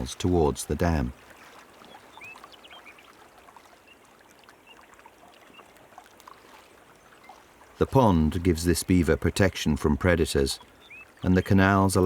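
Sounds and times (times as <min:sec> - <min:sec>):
small water drips: 0:00.0 - 0:12.0
water lapping and trickling: 0:00.0 - 0:12.0.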